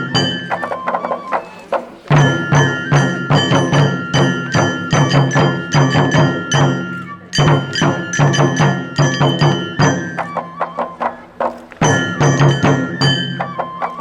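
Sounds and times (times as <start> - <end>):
drum beating: 0.0 - 14.0
ringing metal percussion: 0.0 - 14.0.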